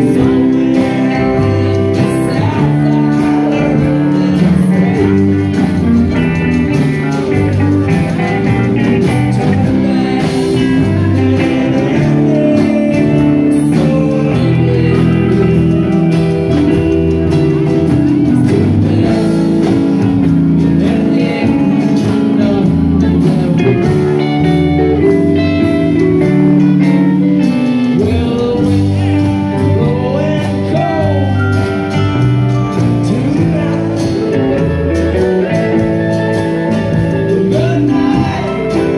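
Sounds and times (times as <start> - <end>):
live blues-rock band: 0.0 - 38.9
man singing: 0.0 - 38.9.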